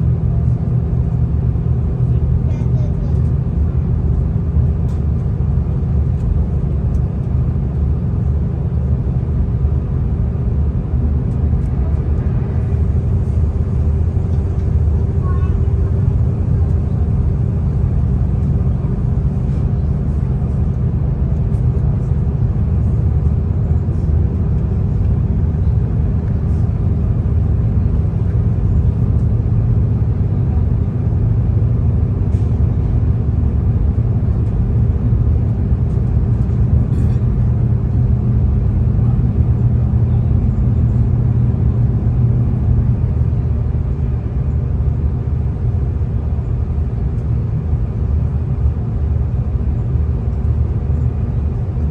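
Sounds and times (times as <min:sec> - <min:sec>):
diesel train rumble inside carriage: 0:00.0 - 0:51.9.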